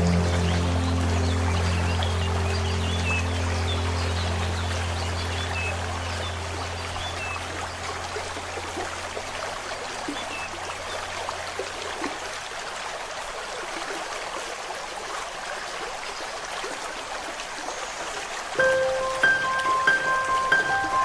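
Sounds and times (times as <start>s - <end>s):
flowing stream rushing: 0.0s - 21.0s.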